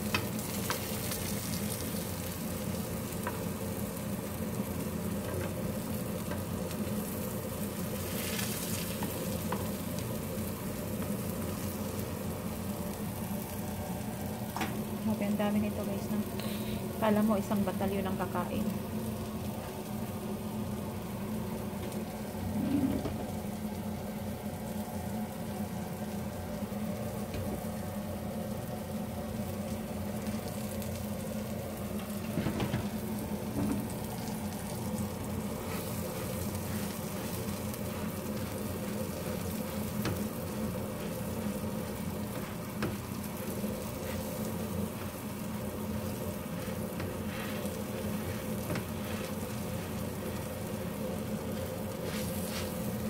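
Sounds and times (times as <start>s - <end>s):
omelettes sizzling in oil: 0.0s - 53.0s.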